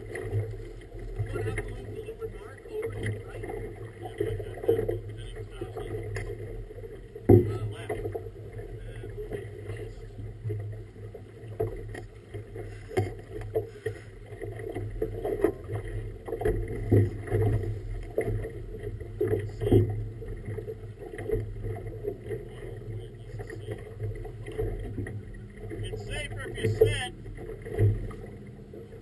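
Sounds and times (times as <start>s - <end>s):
water slapping boat hull: 0.0s - 29.0s.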